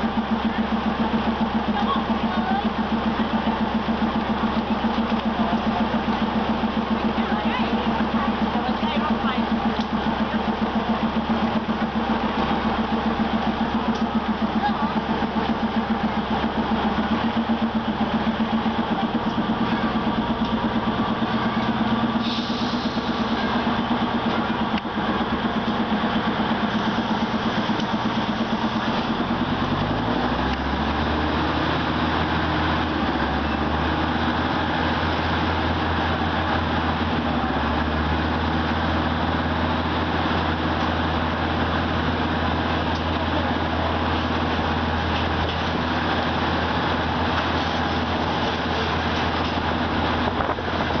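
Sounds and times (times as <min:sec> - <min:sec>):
engine hum: 0:00.0 - 0:51.0
train rolling noise: 0:00.0 - 0:51.0.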